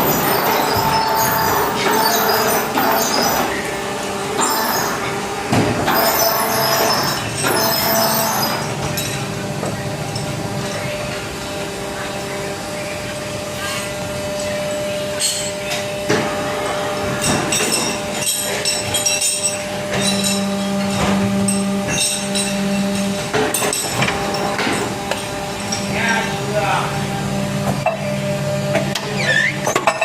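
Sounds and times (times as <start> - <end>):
hydraulic machine hum: 0.0 - 30.0.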